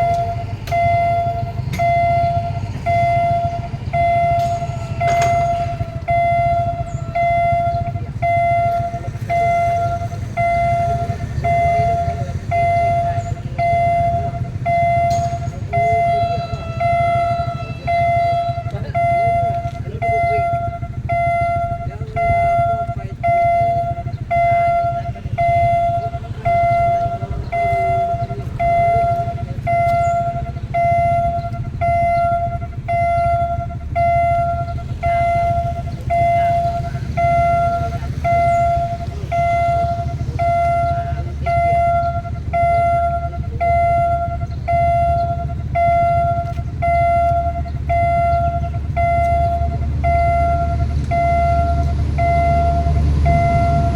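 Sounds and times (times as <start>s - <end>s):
level crossing alarm pulses: 0.0s - 53.9s
low rumble: 0.0s - 53.9s.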